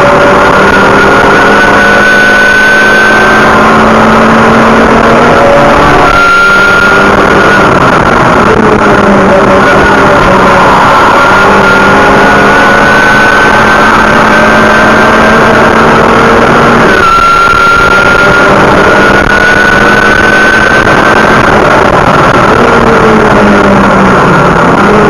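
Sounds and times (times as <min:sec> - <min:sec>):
car engine pulling hard: 0:00.0 - 0:25.0
wind and road noise: 0:00.0 - 0:25.0.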